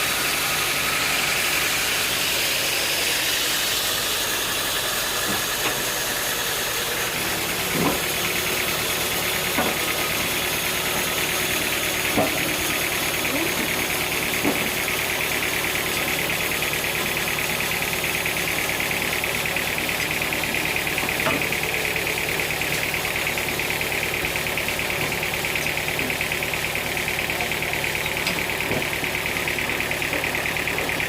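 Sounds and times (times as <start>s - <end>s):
high-pitched machine whine: 0.0s - 25.6s
sawmill machinery drone: 0.0s - 31.0s.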